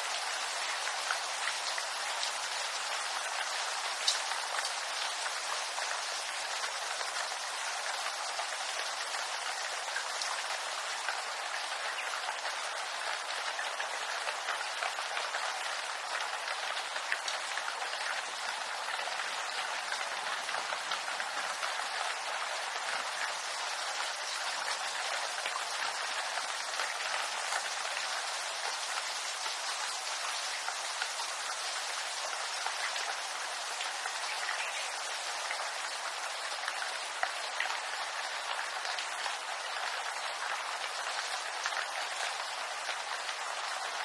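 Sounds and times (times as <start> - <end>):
rain on leaves: 0.0 - 44.0.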